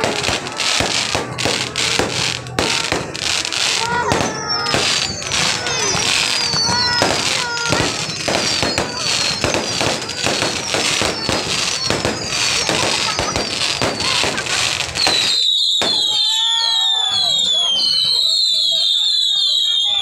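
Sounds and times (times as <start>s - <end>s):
fireworks bangs and crackling: 0.0s - 20.0s
high falling whistles: 3.9s - 20.0s.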